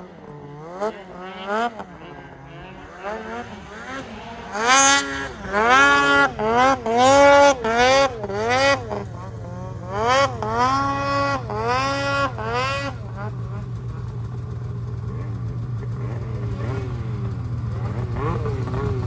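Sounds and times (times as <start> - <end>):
low engine hum: 0.0 - 19.0
snowmobile engine revving: 0.0 - 19.0.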